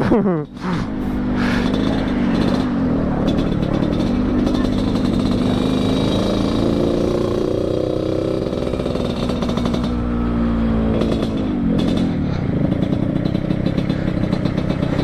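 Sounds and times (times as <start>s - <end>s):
raspy two-stroke motorcycle engine: 0.0s - 15.0s.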